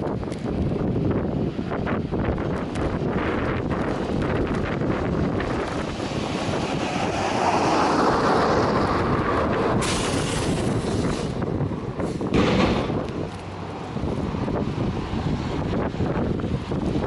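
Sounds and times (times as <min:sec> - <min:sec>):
storm wind on microphone: 0:00.0 - 0:17.0.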